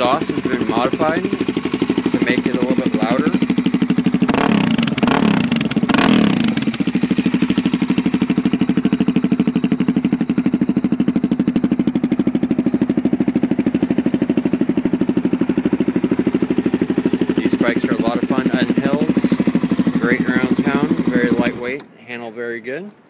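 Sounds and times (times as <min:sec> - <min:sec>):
motorcycle engine revving and idling: 0:00.0 - 0:21.9.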